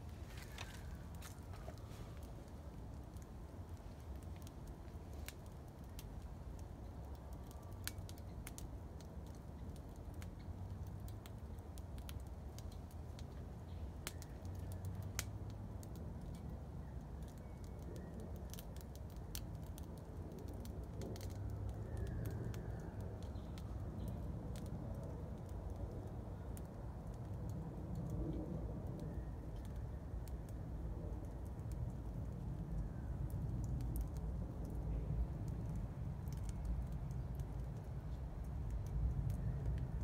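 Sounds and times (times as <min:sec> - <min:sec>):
low steady rumble: 0:00.0 - 0:17.2, 0:19.0 - 0:40.0
fire crackling and popping: 0:00.0 - 0:40.0.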